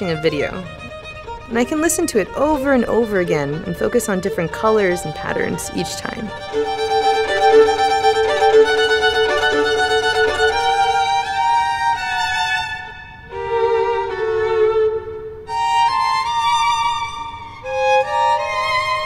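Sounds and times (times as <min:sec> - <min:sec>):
solo violin slow melody: 0:00.0 - 0:19.0.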